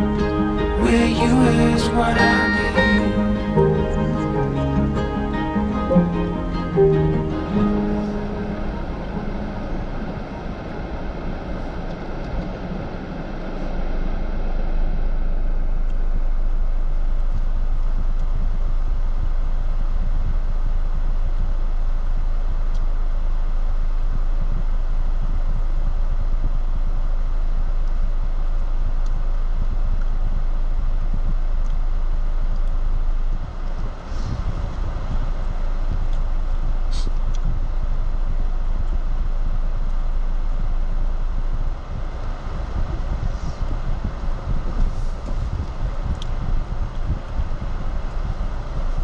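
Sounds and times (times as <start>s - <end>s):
vehicle engine and tyres rumbling: 0.0s - 49.0s.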